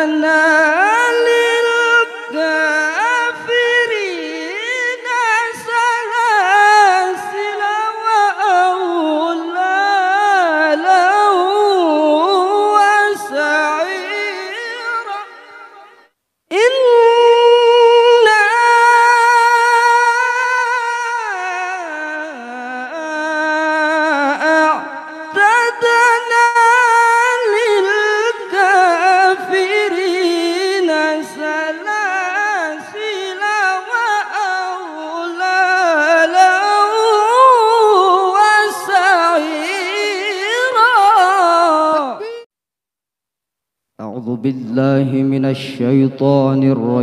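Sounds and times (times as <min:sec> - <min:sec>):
man reciting melodically into microphone: 0:00.0 - 0:42.5, 0:44.0 - 0:47.0.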